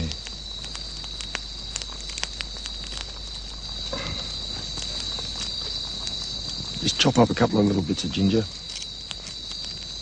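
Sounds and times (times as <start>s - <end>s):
campfire crackling and popping: 0.0s - 10.0s
insects chirring: 0.0s - 10.0s.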